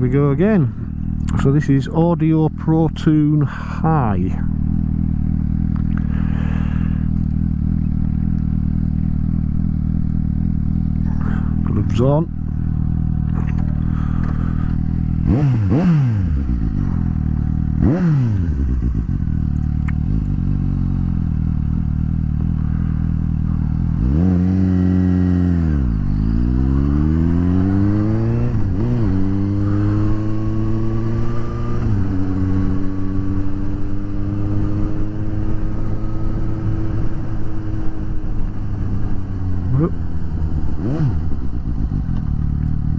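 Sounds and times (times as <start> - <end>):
motorcycle engine revving and accelerating: 0.0 - 42.9.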